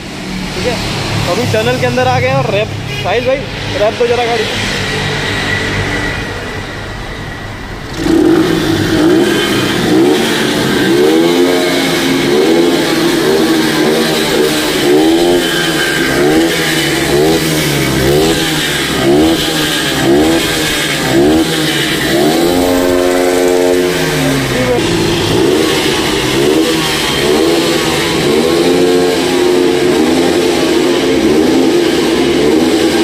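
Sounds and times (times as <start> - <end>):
motorcycle engine revving in tunnel: 0.0 - 33.0.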